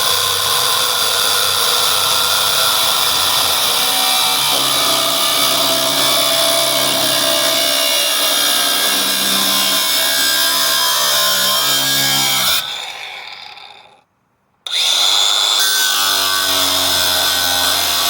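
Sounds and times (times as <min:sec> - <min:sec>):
power tool cutting steel: 0:00.0 - 0:14.0, 0:14.7 - 0:18.0.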